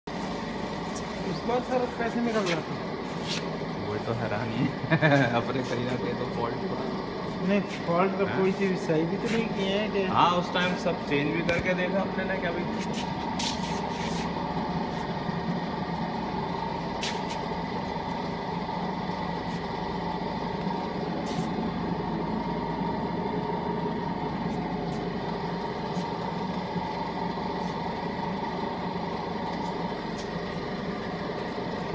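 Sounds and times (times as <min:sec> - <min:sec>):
vibrating sieve motor humming: 0:00.1 - 0:31.9.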